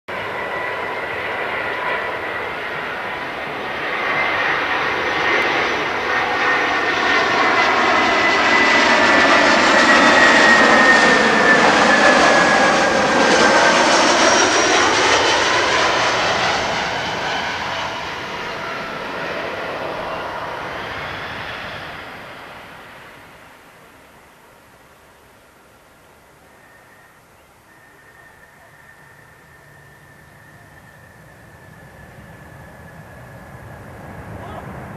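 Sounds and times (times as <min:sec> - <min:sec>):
jet airliner flying overhead: 0:00.1 - 0:34.9.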